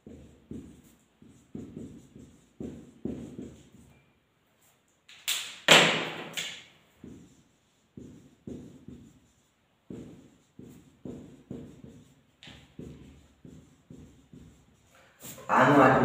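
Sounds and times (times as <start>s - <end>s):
marker pen on whiteboard: 0.0s - 16.0s.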